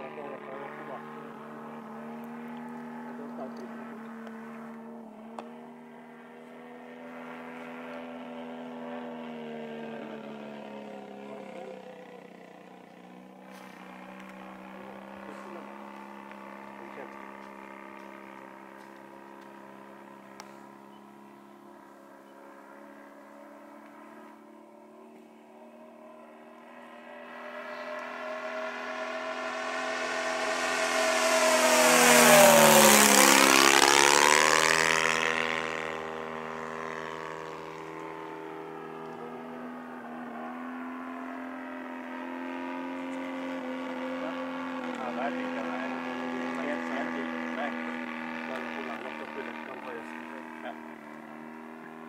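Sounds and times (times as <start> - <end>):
model plane engine droning: 0.0 - 52.0.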